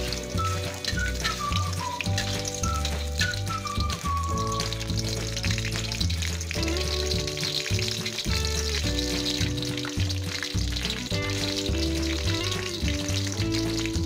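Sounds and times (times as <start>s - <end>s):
background music: 0.0s - 14.0s
garlic sizzling in oil: 0.0s - 14.0s.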